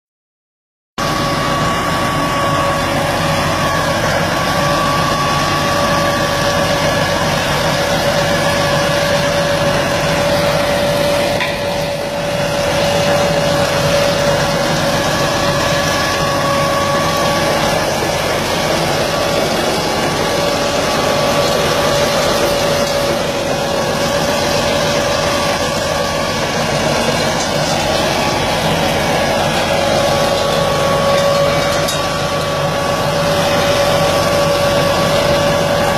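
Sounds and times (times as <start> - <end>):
constant whining tone: 1.0 - 35.9
machine engine running: 1.0 - 35.9.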